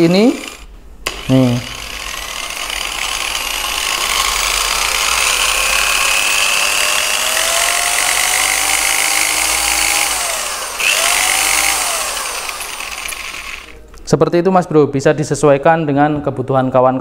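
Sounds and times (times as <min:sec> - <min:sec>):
polisher motor whine: 0:00.0 - 0:13.8.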